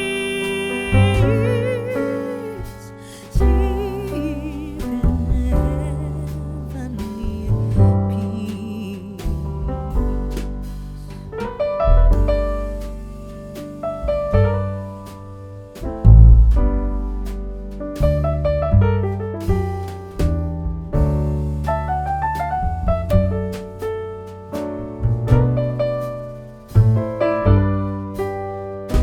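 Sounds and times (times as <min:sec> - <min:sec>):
piano background music: 0:00.0 - 0:29.0.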